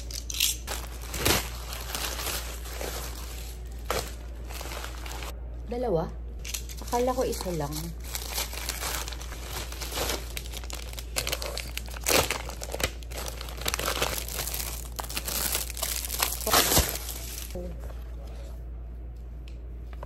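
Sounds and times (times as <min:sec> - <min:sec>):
plastic packaging crinkling: 0:00.0 - 0:05.3, 0:06.4 - 0:17.6.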